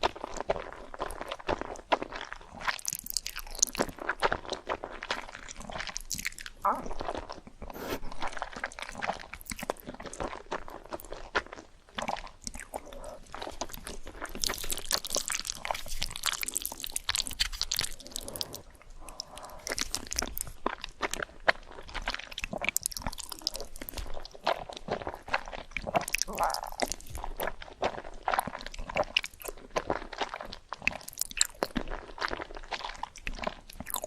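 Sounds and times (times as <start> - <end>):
crunchy chewing of fried food: 0.0 - 34.0.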